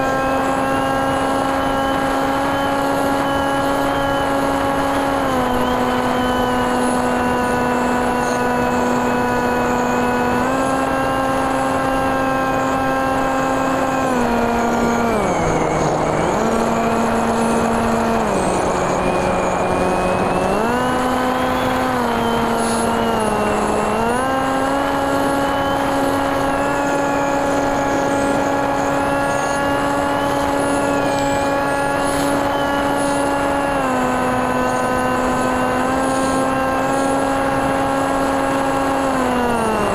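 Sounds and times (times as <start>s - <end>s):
electric motor propeller whine: 0.0s - 39.9s
rushing wind noise: 0.0s - 39.9s.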